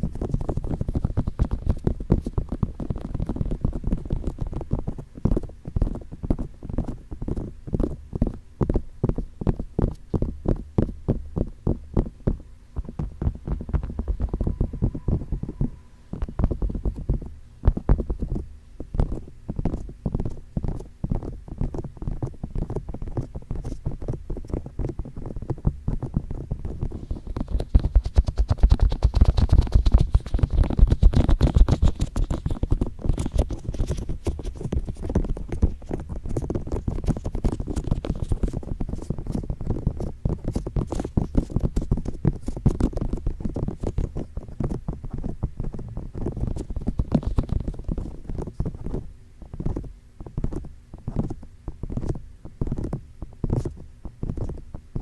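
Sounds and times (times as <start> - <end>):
fingertips tapping on microphone: 0.0 - 55.0.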